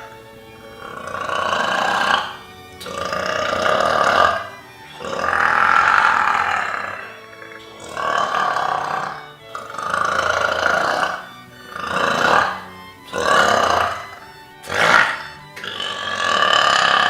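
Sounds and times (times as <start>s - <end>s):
person belching: 0.8s - 17.0s.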